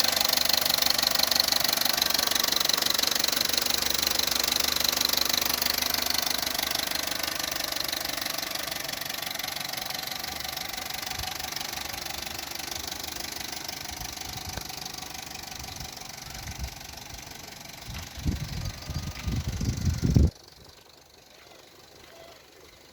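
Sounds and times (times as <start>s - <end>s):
car engine idling with rattle: 0.0s - 22.9s.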